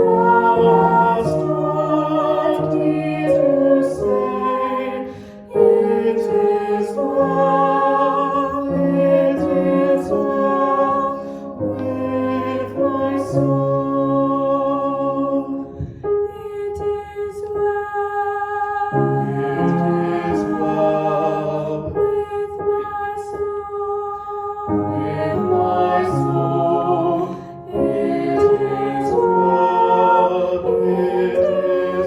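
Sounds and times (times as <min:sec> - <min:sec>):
slow hymn chords: 0:00.0 - 0:17.8, 0:18.5 - 0:32.0.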